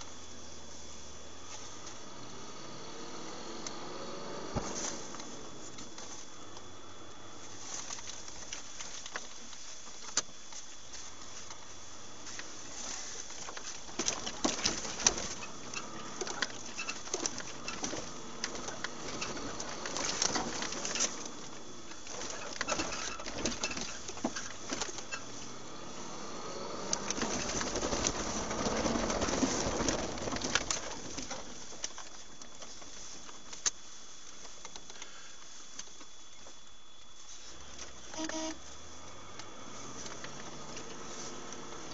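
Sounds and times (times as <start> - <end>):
faint high whine: 0.0 - 41.9
vehicle cabin rumble and hiss: 0.0 - 41.9
small clicks and rattles: 7.4 - 41.9.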